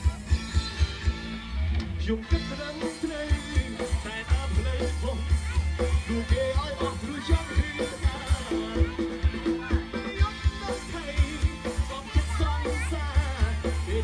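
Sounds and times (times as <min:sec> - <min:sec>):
bass: 0:00.0 - 0:14.0
live pop band playing: 0:00.0 - 0:14.0
man singing: 0:02.0 - 0:14.0
drum beat: 0:02.3 - 0:14.0.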